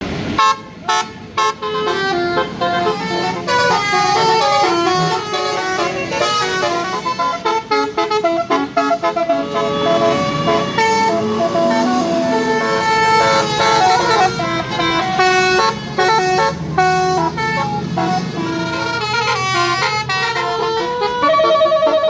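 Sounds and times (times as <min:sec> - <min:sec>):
melodic bus air horn: 0:00.2 - 0:22.0.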